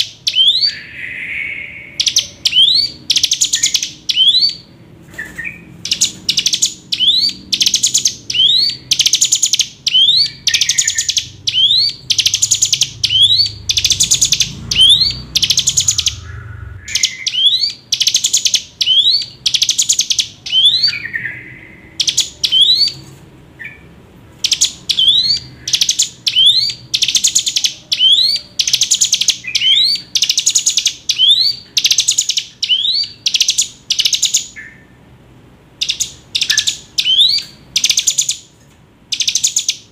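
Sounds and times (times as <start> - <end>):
bird singing repeated call: 0.0 - 35.1, 35.7 - 39.9.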